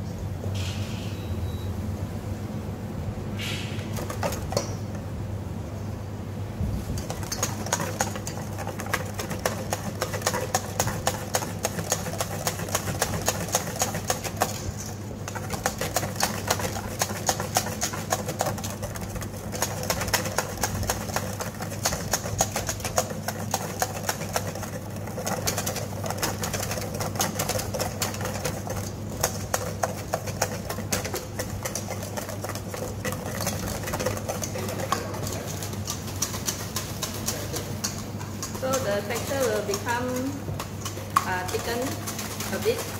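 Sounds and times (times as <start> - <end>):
steady low hum: 0.0 - 42.9
whisk beating in a metal bowl: 4.0 - 4.9, 6.8 - 42.9.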